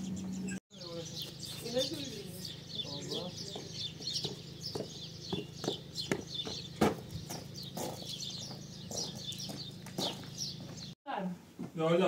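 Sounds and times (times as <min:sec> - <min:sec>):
small birds chirping: 0:00.0 - 0:11.0
footsteps on gravel: 0:01.1 - 0:11.0.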